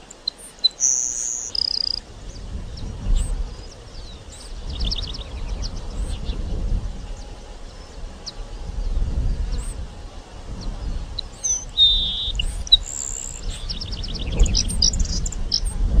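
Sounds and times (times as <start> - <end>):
sparrow singing: 0.0 - 9.8, 10.6 - 15.8
low background rumble: 1.4 - 16.0.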